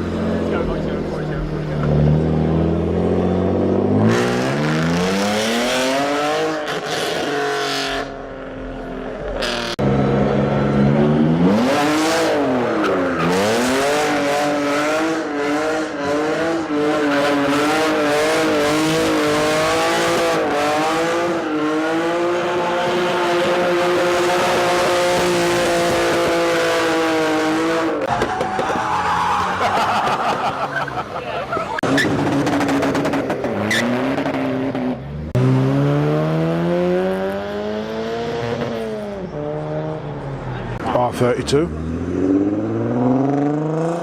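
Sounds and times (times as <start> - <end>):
car engine revving: 0.0 - 30.9, 31.7 - 44.0.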